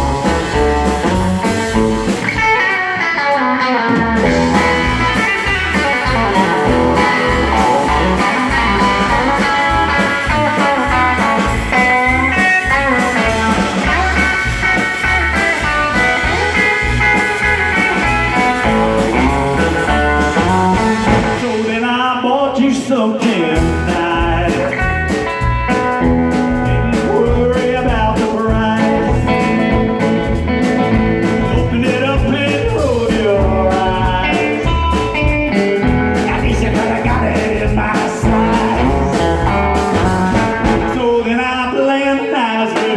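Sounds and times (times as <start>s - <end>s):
person singing: 0.0s - 30.4s, 31.2s - 42.9s
electric guitar: 0.0s - 42.9s
live blues-rock band: 0.0s - 42.9s.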